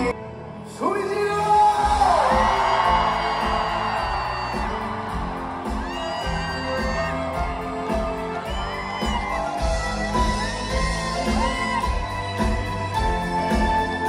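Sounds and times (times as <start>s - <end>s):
live band music: 1.0s - 14.0s
crowd whooping: 1.8s - 14.0s.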